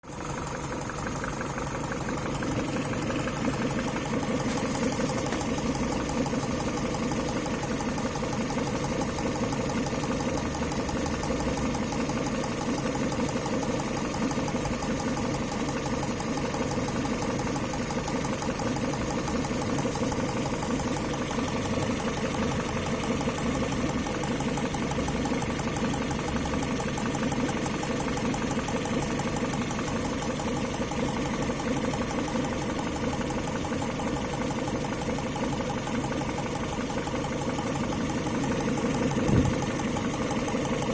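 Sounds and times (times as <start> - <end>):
engine idling with regular knock: 0.0 - 40.9.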